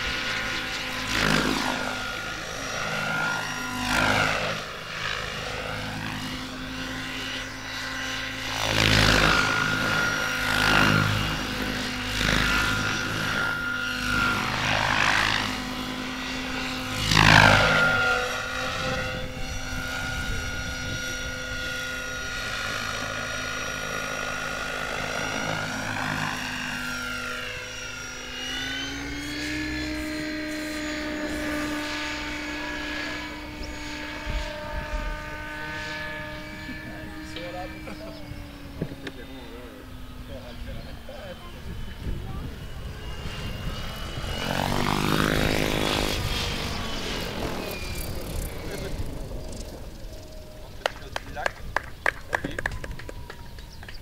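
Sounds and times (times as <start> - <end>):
rc helicopter motor whine: 0.0 - 54.0.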